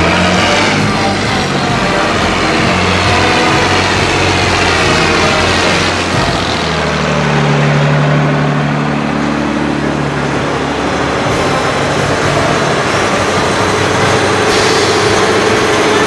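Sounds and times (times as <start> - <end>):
tractor diesel engines: 0.0 - 16.0.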